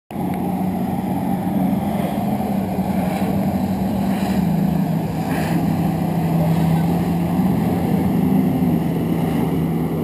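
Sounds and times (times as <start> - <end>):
jet ski engine droning: 0.1 - 10.0.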